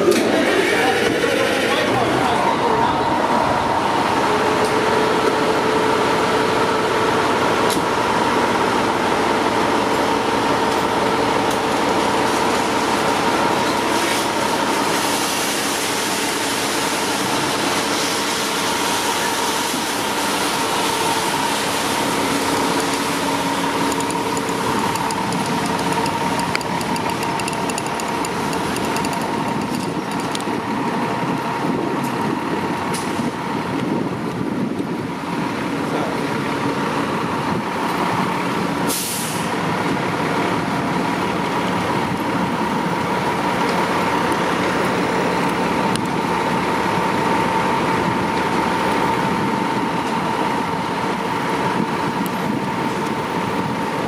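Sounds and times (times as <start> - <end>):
diesel engine idling with whine: 0.0 - 54.0.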